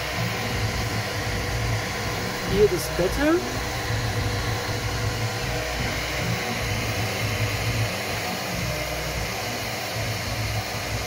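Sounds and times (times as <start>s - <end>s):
cooling fans blowing: 0.0s - 11.0s
printer motor hum: 0.0s - 11.0s.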